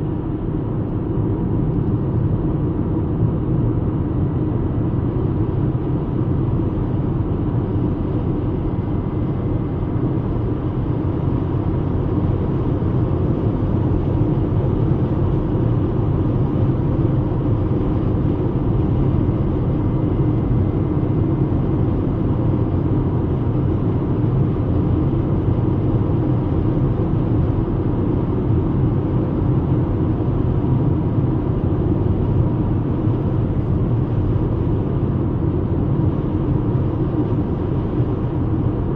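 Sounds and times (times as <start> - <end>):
car engine and tyre rumble: 0.0 - 38.9
faint steady whine: 0.0 - 38.9.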